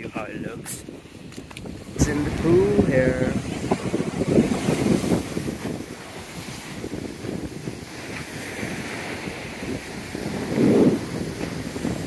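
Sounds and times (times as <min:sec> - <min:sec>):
surf breaking on sandy beach: 0:00.0 - 0:12.0
wind buffeting microphone: 0:00.0 - 0:12.0.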